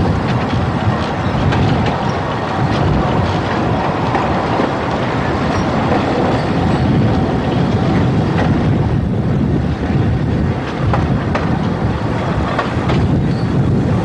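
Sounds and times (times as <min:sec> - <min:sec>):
faint rail clicks: 0:00.0 - 0:08.7, 0:10.6 - 0:13.6
train wheels rumbling: 0:00.0 - 0:14.0.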